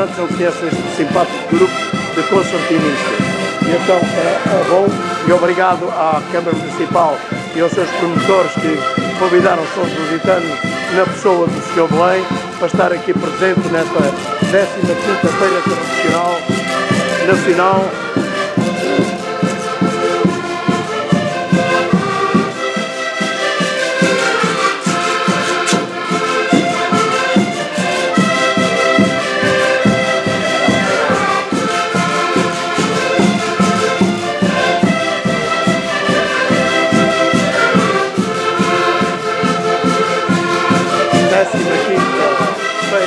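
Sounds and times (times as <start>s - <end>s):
concertinas playing together: 0.0s - 43.0s.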